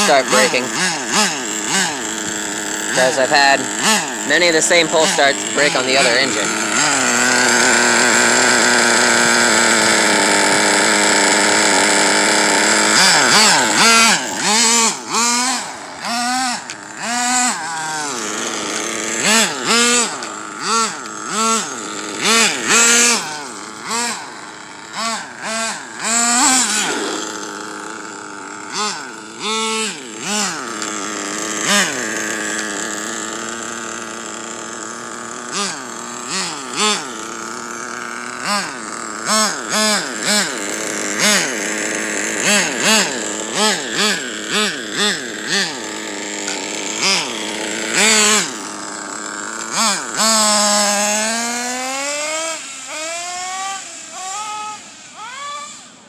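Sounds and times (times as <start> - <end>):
model truck engine revving: 0.0 - 56.0.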